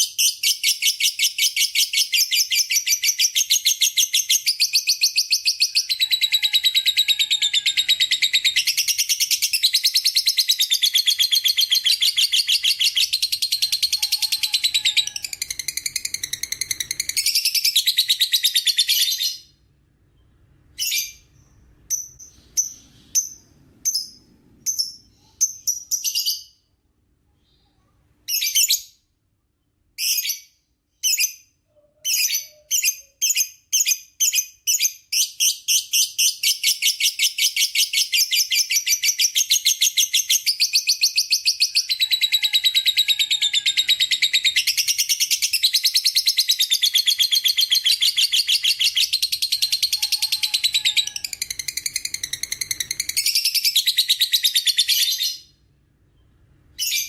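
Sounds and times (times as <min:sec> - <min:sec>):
bird chirping and trilling: 0:00.0 - 0:26.7, 0:27.4 - 0:29.1, 0:30.0 - 0:57.0.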